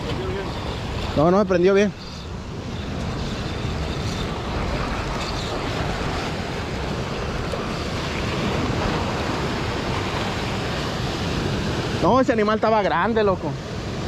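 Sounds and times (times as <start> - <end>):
wind buffeting microphone: 0.0 - 12.6
ocean surf washing in: 0.0 - 14.0.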